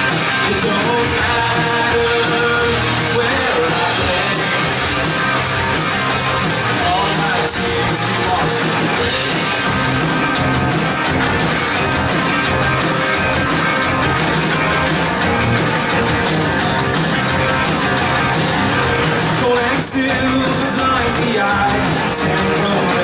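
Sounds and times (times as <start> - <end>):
band playing guitars and drums: 0.0 - 23.0.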